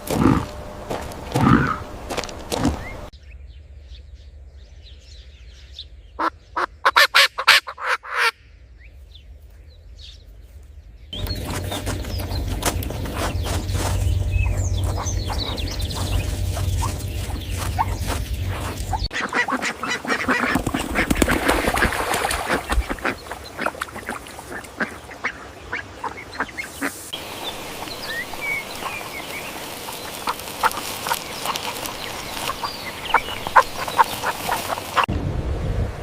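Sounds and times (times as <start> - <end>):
ducks quacking: 0.0 - 3.1, 6.2 - 8.4, 11.2 - 35.1
small birds chirping: 0.0 - 7.0, 8.8 - 35.1.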